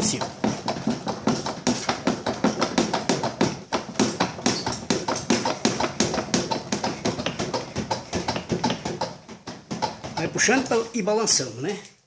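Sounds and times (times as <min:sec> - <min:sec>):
rapid knocking and clattering: 0:00.0 - 0:11.1.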